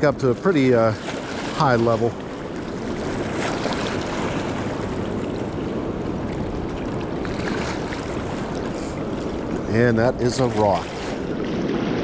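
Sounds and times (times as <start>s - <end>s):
fast river current rushing: 0.0s - 12.0s
wind on microphone: 0.9s - 12.0s.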